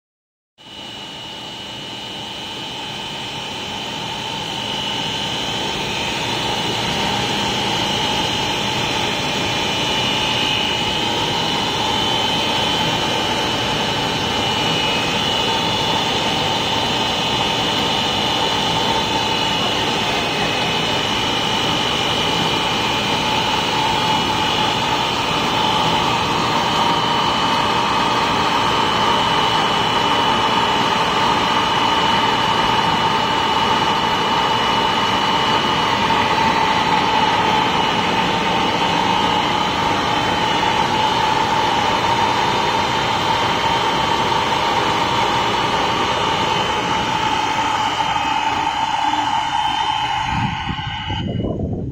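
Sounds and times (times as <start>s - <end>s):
constant high whine: 0.6s - 51.9s
machine din of motors and fans: 0.6s - 51.9s.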